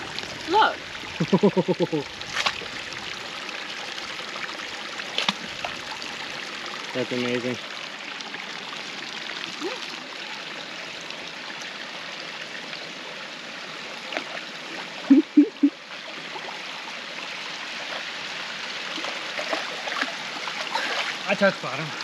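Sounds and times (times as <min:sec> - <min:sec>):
waterfall trickling into pool: 0:00.0 - 0:22.0.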